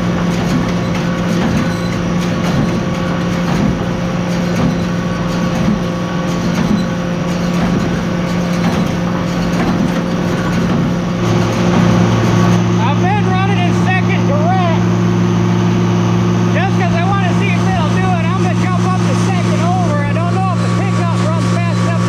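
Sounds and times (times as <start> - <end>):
hay baler strokes: 0.0 - 22.0
tractor engine running: 0.0 - 22.0.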